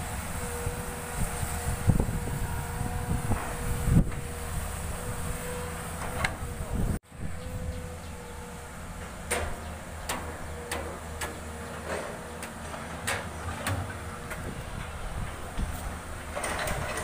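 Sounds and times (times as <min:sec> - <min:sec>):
excavator diesel engines droning: 0:00.0 - 0:17.0.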